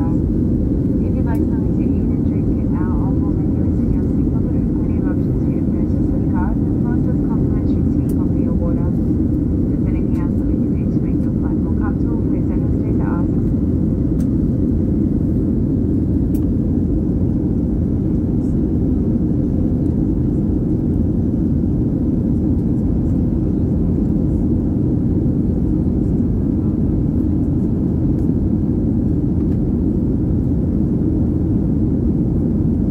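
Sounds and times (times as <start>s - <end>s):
airplane cabin rumble: 0.0s - 32.9s.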